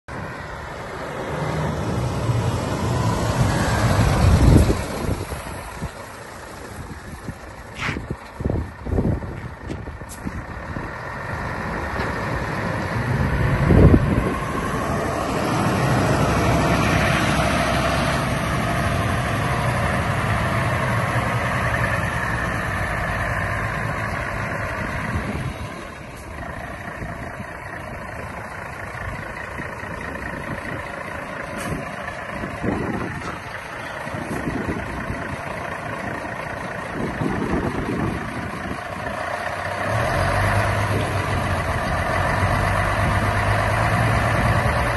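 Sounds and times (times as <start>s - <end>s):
truck diesel engine driving by: 0.1s - 44.9s.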